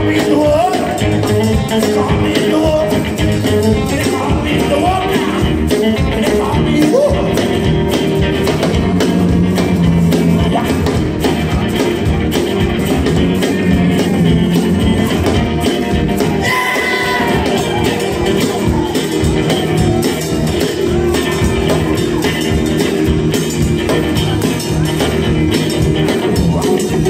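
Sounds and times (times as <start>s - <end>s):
rockabilly band playing: 0.0s - 27.0s.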